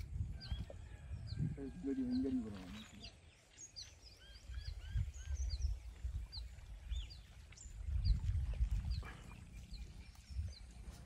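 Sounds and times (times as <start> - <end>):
wind rumble on microphone: 0.0 - 3.4, 4.0 - 11.0
small birds chirping: 0.4 - 11.0.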